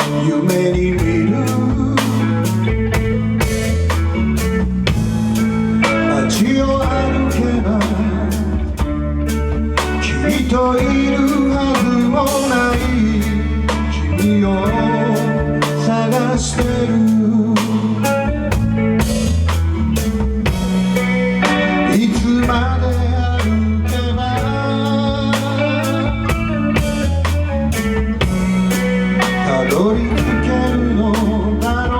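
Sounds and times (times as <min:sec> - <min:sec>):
bluesy band music: 0:00.0 - 0:31.9.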